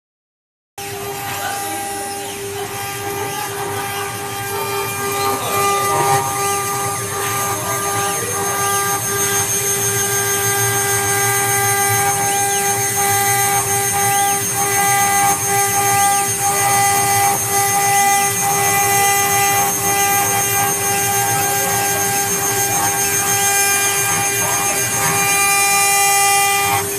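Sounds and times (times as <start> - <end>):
bit grinding stone: 0.8 - 26.9
router spindle whine: 0.8 - 26.9.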